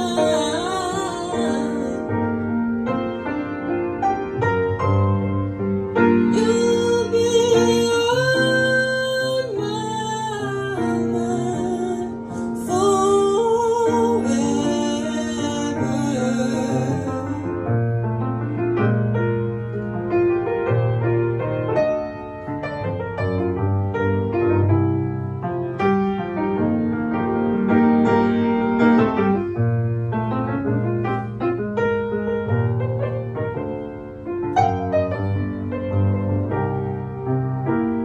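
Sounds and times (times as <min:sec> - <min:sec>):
solo grand piano: 0:00.0 - 0:38.0.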